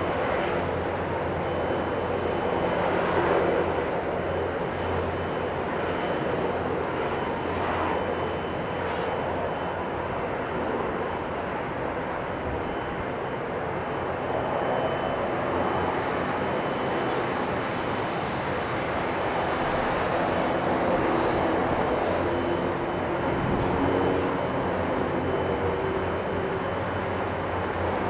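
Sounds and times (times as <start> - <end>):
helicopters flying overhead: 0.0 - 28.0.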